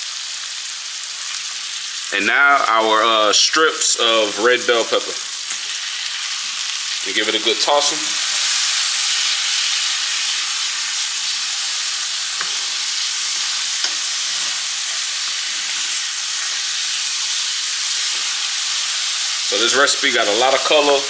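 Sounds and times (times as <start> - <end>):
vegetables sizzling in fat: 0.0 - 21.0.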